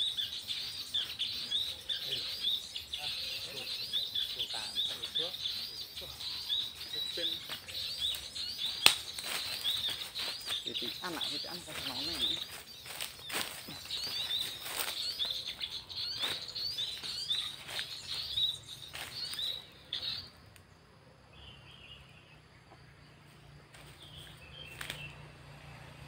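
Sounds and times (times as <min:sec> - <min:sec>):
rustling through grass and leaves: 0:00.0 - 0:20.2, 0:23.3 - 0:26.0
small bird chirping rapidly: 0:00.0 - 0:20.6, 0:21.5 - 0:26.0.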